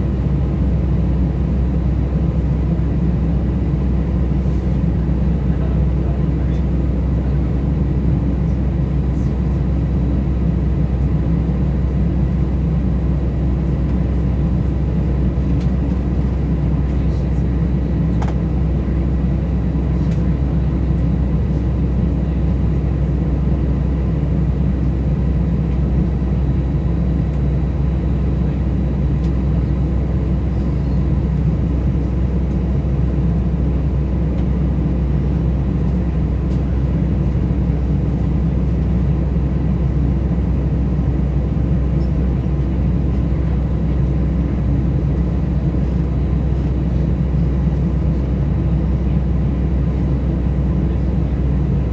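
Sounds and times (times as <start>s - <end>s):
low rumble of engines and airflow: 0.0s - 51.9s.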